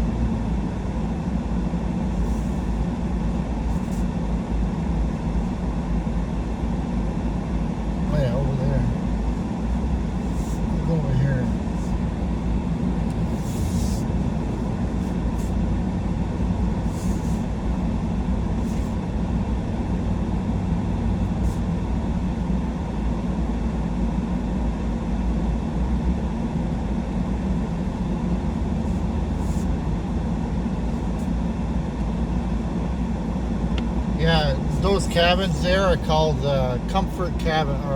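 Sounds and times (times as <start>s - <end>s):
truck engine and tyre rumble: 0.0s - 37.9s.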